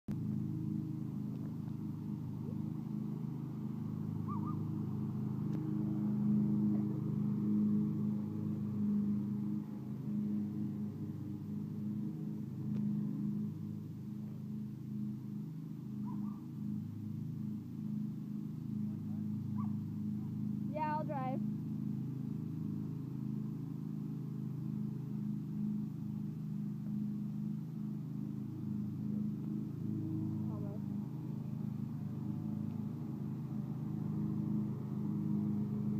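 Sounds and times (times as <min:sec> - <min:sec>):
riding lawn mower engine: 0:00.1 - 0:35.9.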